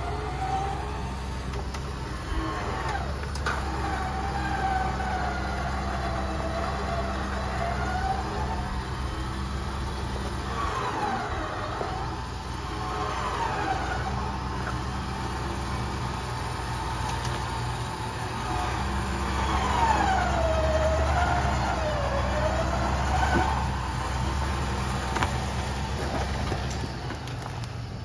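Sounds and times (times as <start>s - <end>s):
engine running under load: 0.0s - 28.0s.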